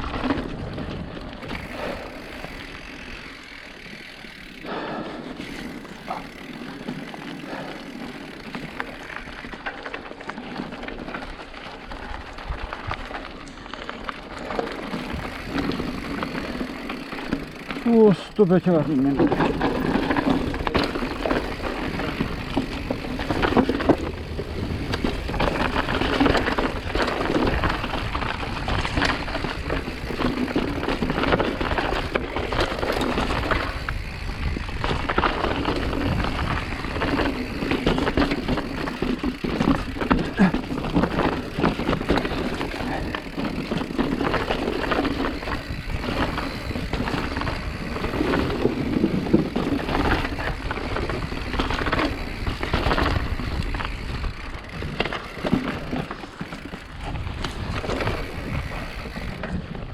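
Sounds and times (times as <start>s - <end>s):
bike rattling: 0.0s - 59.9s.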